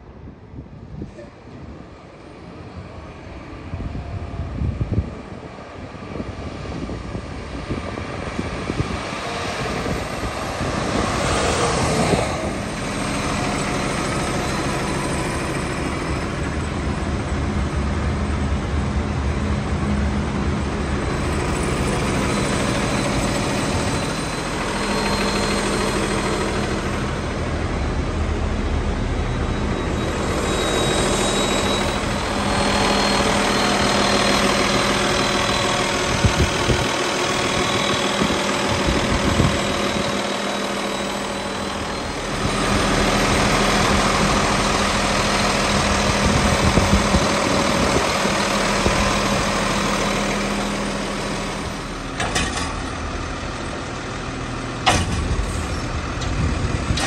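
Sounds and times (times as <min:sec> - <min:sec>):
garbage truck diesel engine passing: 0:02.0 - 0:57.0.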